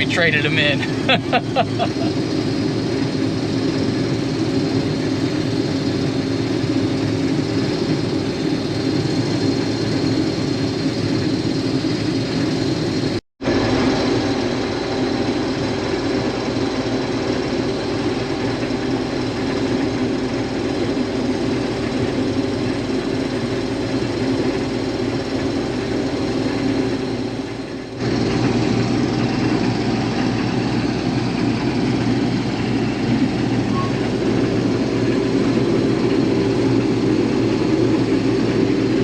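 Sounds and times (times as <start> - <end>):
combine harvester engine drone: 0.0 - 39.0.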